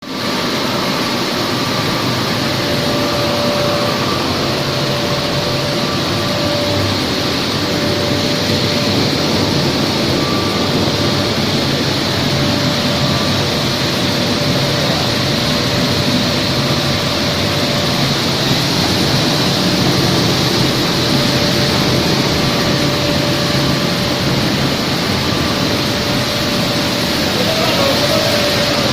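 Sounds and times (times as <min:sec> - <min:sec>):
faint steady whine: 0:00.0 - 0:28.9
milling machinery running: 0:00.0 - 0:28.9.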